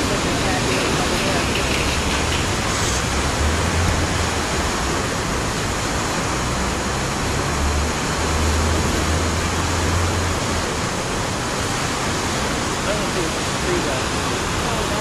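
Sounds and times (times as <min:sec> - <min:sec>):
flood water rushing: 0:00.0 - 0:15.0.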